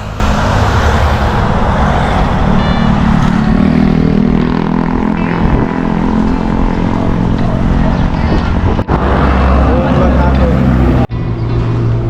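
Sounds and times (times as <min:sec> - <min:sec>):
wind rushing over microphone: 0:00.0 - 0:11.1.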